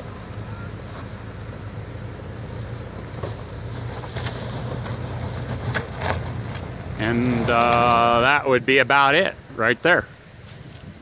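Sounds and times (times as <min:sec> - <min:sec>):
tyres crunching on gravel: 0:00.0 - 0:09.2
car engine running with low hum: 0:00.0 - 0:11.0.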